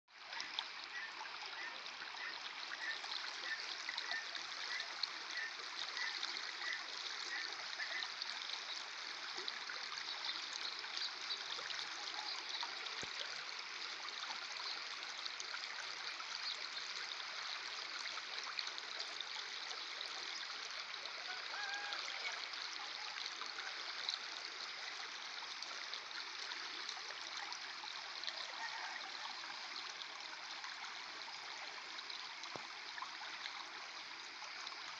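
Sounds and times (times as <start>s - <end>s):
water flowing over bank: 0.1s - 34.9s.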